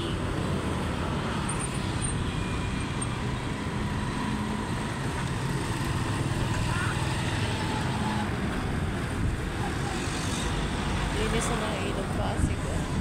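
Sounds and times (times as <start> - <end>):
low rumble of engines and traffic: 0.0 - 13.0.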